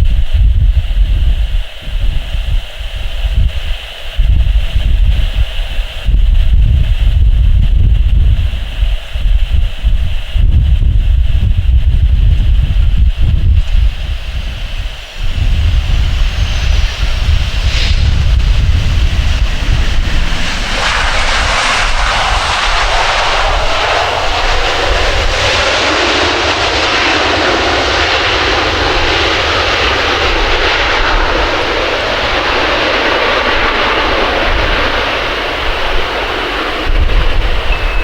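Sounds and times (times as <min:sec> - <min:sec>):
airliner engines roaring: 0:00.0 - 0:38.0.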